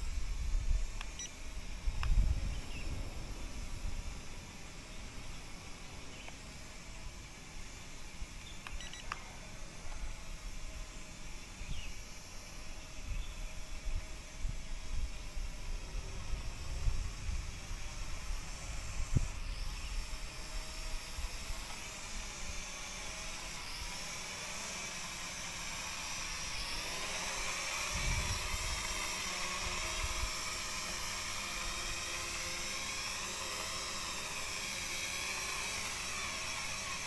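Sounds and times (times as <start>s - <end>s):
drone propellers buzzing whine: 0.0s - 37.0s.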